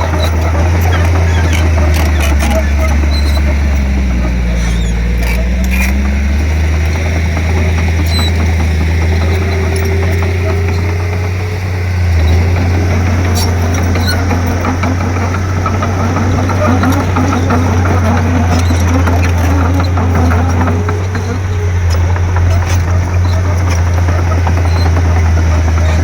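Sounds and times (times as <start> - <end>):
bulldozer diesel engine droning: 0.0 - 26.0
metallic clanks: 0.0 - 26.0.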